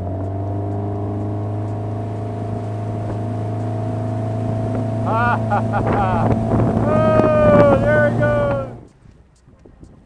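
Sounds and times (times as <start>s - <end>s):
boat engine running hard: 0.0s - 8.9s
water rushing past hull: 0.0s - 8.9s.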